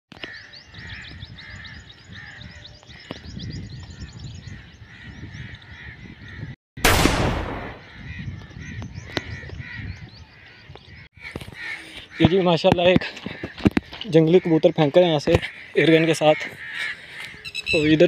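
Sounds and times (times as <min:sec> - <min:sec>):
crows cawing: 0:00.2 - 0:03.2, 0:04.8 - 0:06.6, 0:07.6 - 0:18.0
small birds chirping: 0:00.2 - 0:06.5, 0:07.8 - 0:18.0.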